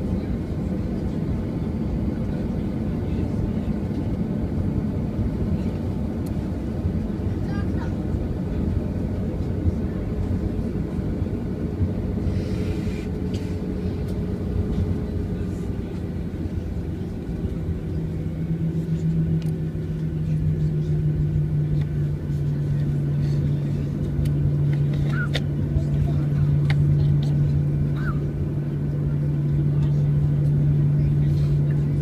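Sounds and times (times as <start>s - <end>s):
airliner engines rumbling: 0.0s - 32.0s.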